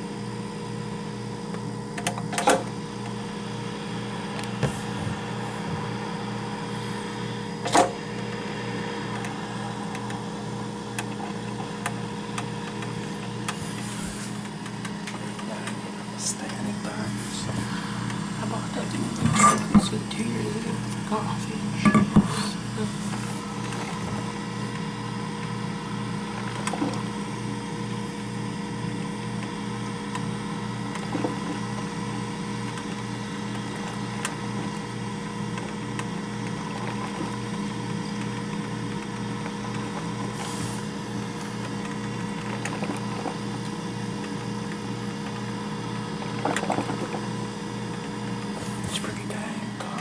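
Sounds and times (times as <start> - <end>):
coffee maker humming and throbbing: 0.0 - 50.0.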